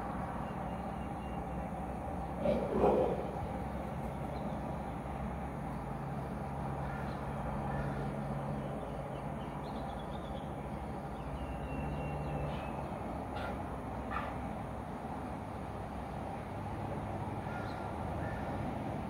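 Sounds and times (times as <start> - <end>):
distant engine humming: 0.0 - 19.0.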